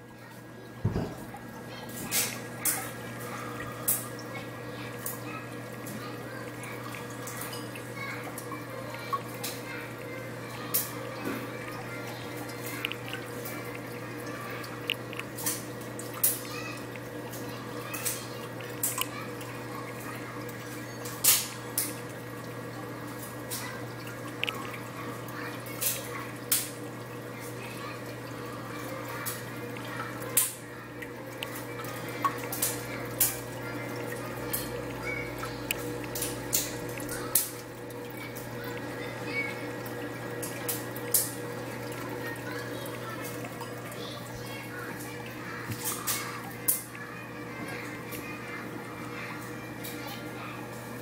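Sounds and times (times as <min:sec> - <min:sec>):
aquarium pump hum: 0:00.0 - 0:51.0
water trickling and dripping: 0:00.1 - 0:51.0
bubbly plip: 0:00.8 - 0:27.3, 0:28.0 - 0:47.0.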